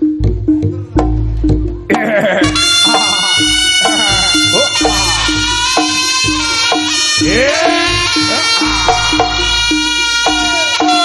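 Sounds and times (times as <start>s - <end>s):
gamelan music: 0.0s - 11.0s
gong and drum beats: 0.0s - 11.0s.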